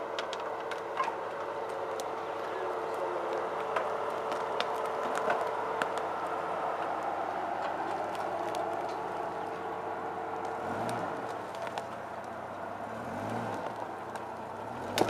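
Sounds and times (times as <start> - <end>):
twigs and branches snapping: 0.0 - 15.0
vehicle engine at low speed: 0.0 - 15.0.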